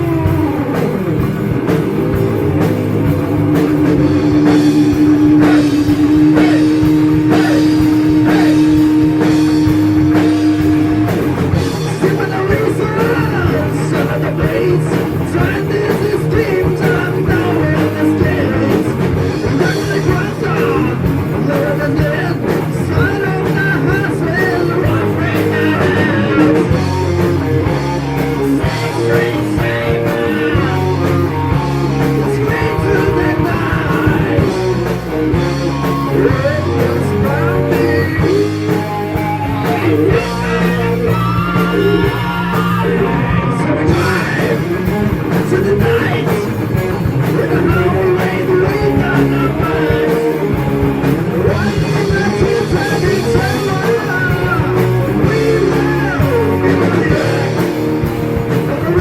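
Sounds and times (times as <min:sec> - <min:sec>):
heavy metal band playing: 0:00.0 - 0:59.0
person singing: 0:03.7 - 0:59.0.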